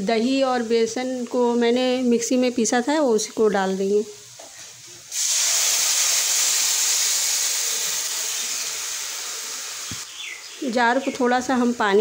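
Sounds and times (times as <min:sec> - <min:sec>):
batter sizzling in hot oil: 0:00.0 - 0:10.2.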